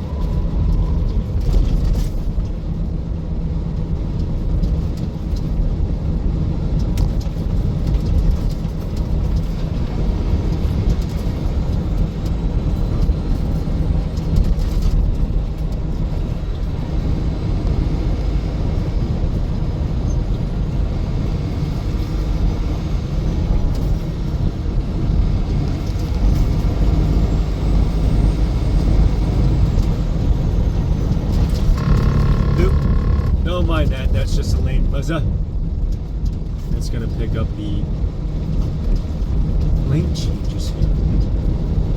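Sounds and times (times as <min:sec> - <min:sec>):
vehicle road and engine noise: 0:00.0 - 0:41.9.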